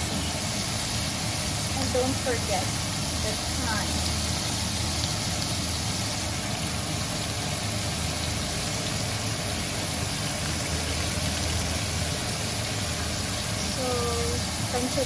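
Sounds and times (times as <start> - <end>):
stove hum and hiss: 0.0 - 15.0
vegetables sauteing in a pot: 0.0 - 15.0.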